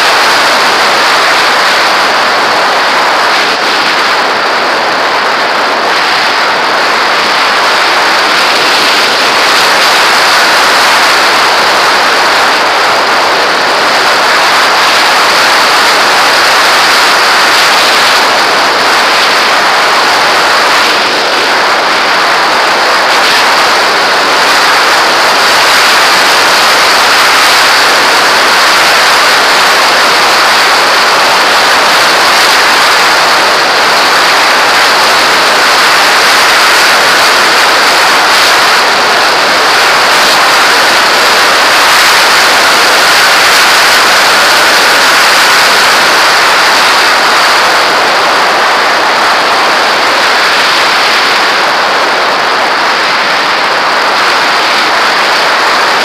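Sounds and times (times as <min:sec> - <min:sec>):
wind noise rushing: 0:00.0 - 0:56.0.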